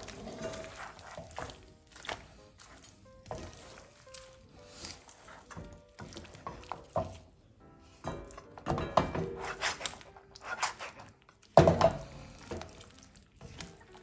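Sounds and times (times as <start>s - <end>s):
meat and spatula knocking pan: 0.0s - 12.8s
background music: 0.0s - 14.0s
wet sticky stirring in pan: 0.0s - 14.0s.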